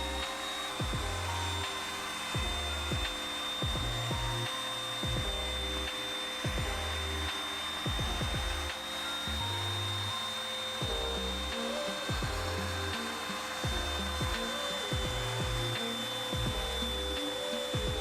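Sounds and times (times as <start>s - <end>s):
background music with steady beat: 0.0s - 18.0s
wood being cut or rubbed: 0.0s - 18.0s.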